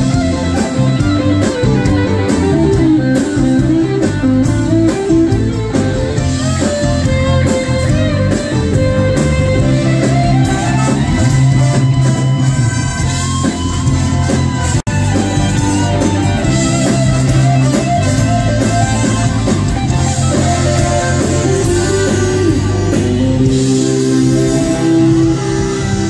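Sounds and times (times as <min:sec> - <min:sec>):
live band with guitar: 0:00.0 - 0:26.0.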